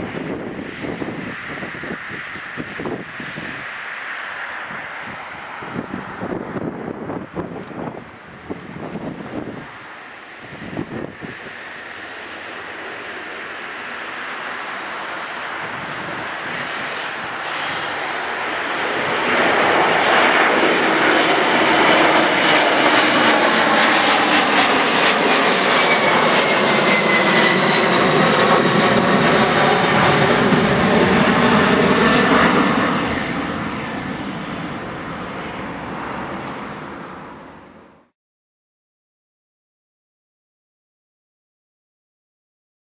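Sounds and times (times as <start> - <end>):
jet engines roaring overhead: 0.0 - 38.1.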